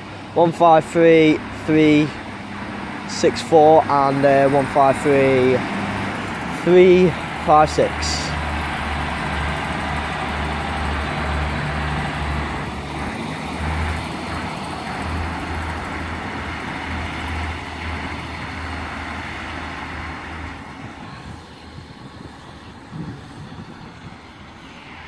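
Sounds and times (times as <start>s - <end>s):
diesel train engines throbbing: 0.0s - 25.0s.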